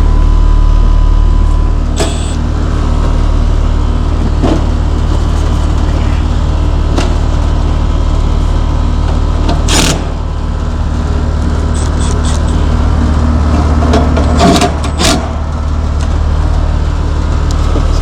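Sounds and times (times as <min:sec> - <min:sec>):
air-conditioning hum: 0:00.0 - 0:18.0.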